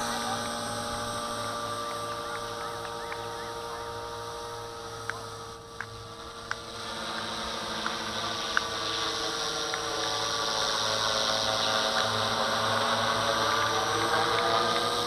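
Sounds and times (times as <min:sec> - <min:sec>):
rc helicopter whine and buzz: 0:00.0 - 0:15.0.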